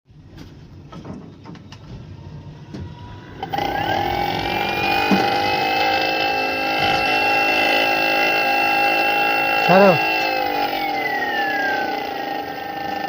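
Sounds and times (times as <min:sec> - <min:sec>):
motor whine: 0:02.4 - 0:13.0.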